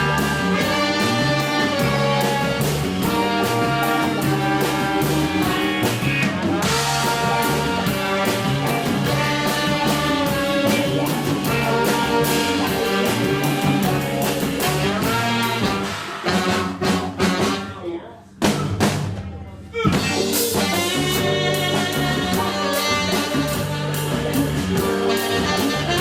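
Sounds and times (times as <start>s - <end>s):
live jazz band playing: 0.0s - 26.0s.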